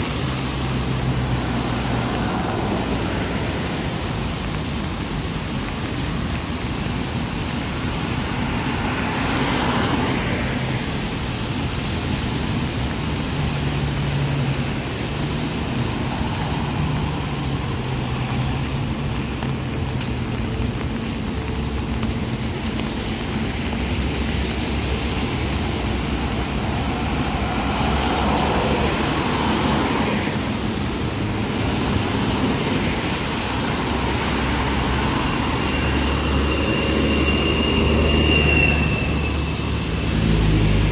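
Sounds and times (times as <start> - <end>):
tyres hissing on wet asphalt: 0.0 - 40.9.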